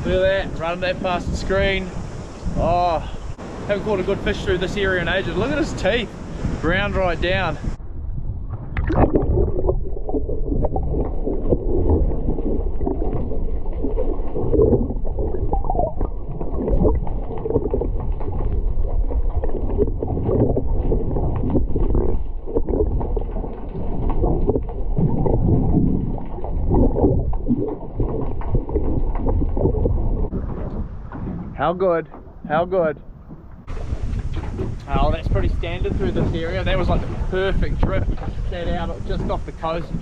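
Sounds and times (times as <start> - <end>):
water bubbling: 0.5 - 31.6, 32.2 - 40.0
muffled underwater rumble: 6.9 - 40.0.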